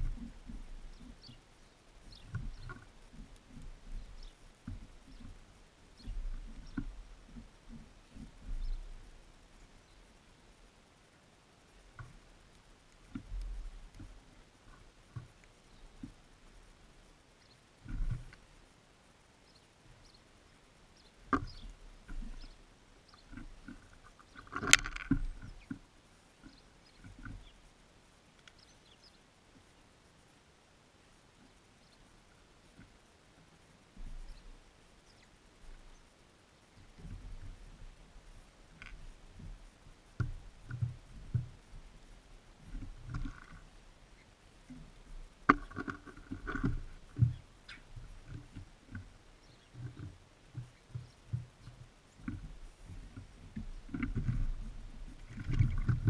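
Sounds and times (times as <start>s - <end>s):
birds tapping and pecking: 0.0s - 10.4s, 11.7s - 18.7s, 19.5s - 29.8s, 31.3s - 33.1s, 33.9s - 56.0s.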